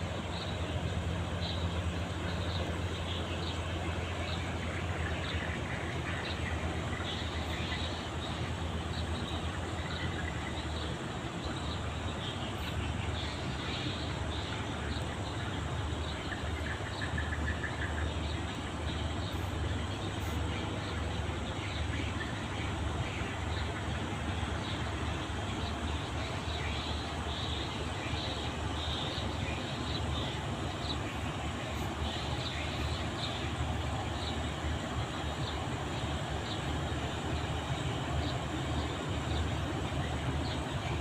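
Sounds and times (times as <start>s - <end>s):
diesel engine droning: 0.0s - 41.0s
wash of noise: 0.0s - 41.0s.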